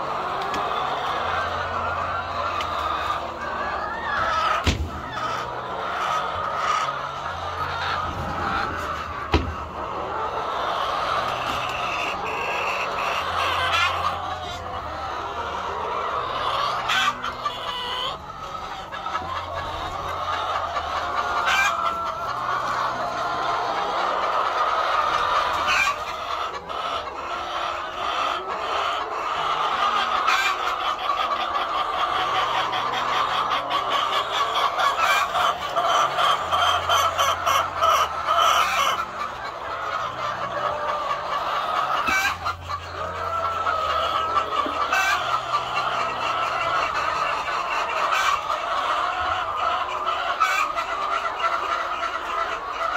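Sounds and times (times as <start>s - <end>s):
hens clucking: 0.0s - 52.9s.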